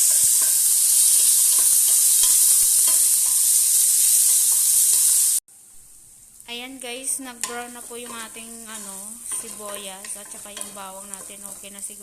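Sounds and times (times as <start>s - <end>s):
garlic and onion sizzling in oil: 0.0s - 5.4s, 6.0s - 12.0s.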